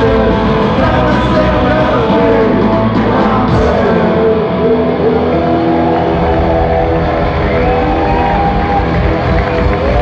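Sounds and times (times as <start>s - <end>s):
loud punk rock band: 0.0s - 10.0s.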